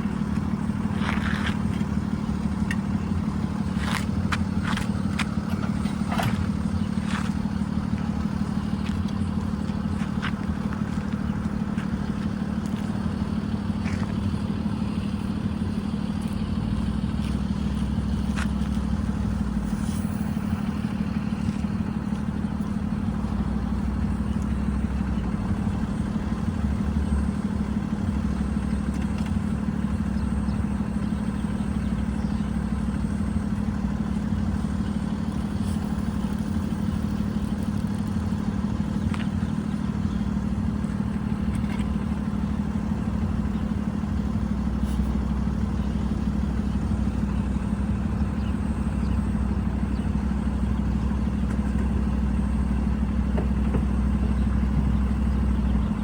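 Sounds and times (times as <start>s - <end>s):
heavy machinery engines droning: 0.0s - 56.0s.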